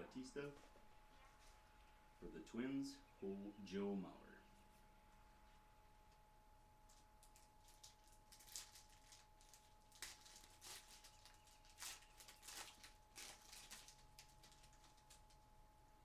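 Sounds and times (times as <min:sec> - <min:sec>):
faint electronic hum: 0:00.0 - 0:16.0.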